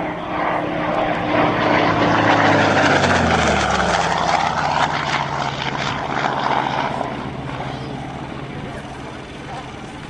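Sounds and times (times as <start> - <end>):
propeller plane flying past: 0.0 - 10.0.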